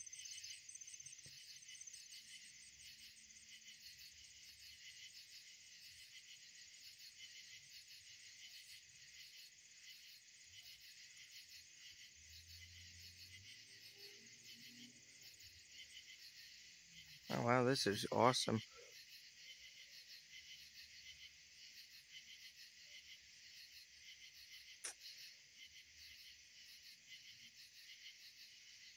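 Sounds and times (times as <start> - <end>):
night insects trilling: 0.0 - 28.9.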